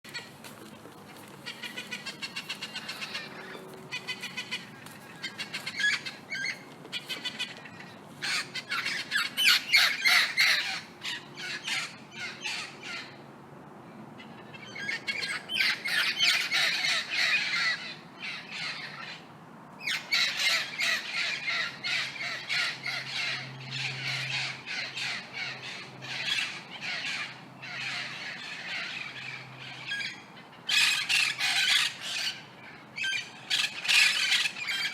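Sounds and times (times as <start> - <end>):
parrots squawking: 1.1 - 13.2, 14.5 - 19.2, 19.8 - 34.9.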